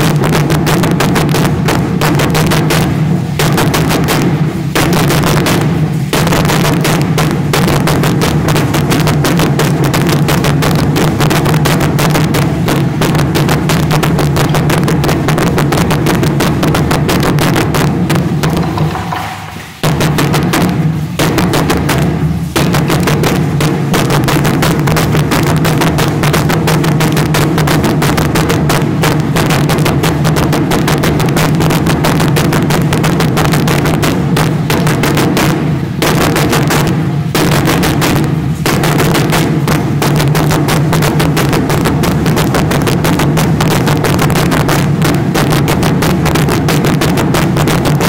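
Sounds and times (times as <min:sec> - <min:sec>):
fast drum beat: 0:00.0 - 0:44.8.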